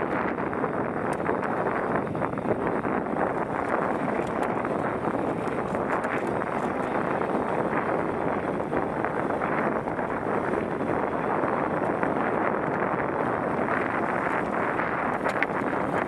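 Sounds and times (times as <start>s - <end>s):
bike rattling ticks: 0.0s - 16.0s
tyres rumbling over dirt: 0.0s - 16.0s
wind buffeting camera: 0.0s - 16.0s.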